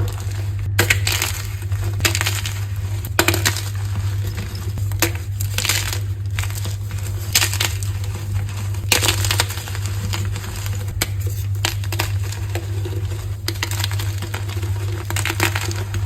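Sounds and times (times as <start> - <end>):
chalk crunching: 0.0 - 16.0
steady low hum: 0.0 - 16.0.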